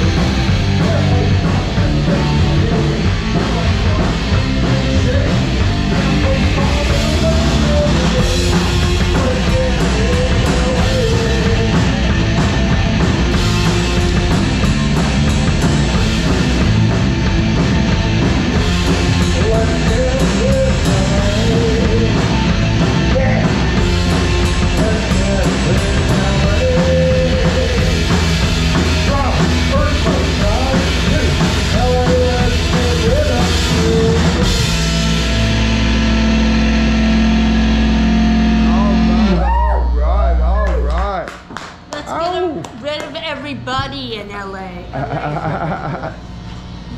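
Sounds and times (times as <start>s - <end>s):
live rock band playing: 0.0s - 40.5s
distorted electric guitar: 0.0s - 42.9s, 43.5s - 46.9s
drums: 0.0s - 46.9s.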